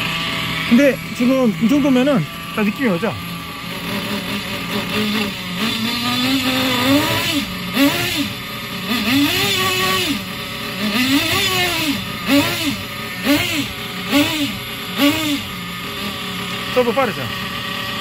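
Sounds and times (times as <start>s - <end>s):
model car engine revving: 0.0s - 18.0s.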